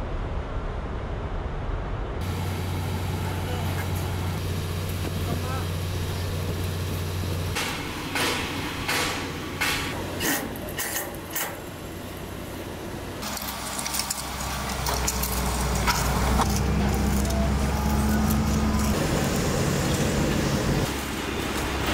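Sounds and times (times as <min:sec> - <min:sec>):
low engine hum: 0:00.0 - 0:21.9.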